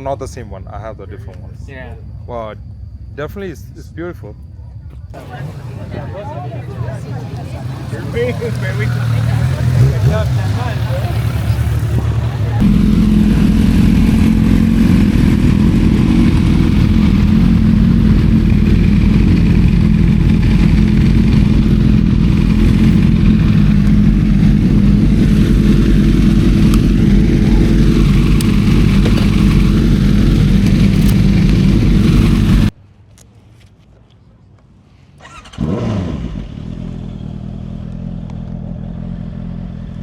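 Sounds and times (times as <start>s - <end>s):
motorcycle engine running: 5.2s - 32.8s, 35.5s - 40.0s.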